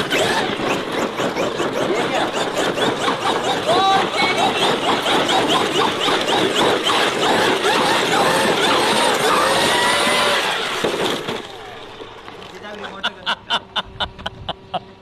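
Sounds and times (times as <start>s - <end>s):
rc car electric motor whining: 0.0s - 12.6s.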